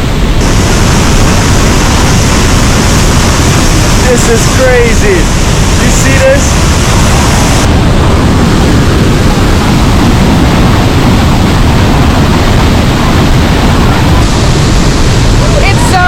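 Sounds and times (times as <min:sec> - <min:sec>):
waterfall pounding: 0:00.0 - 0:16.0.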